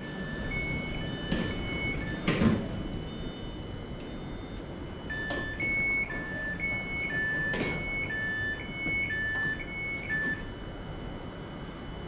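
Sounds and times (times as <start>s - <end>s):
electronic two-tone warning beep: 0.0s - 12.0s.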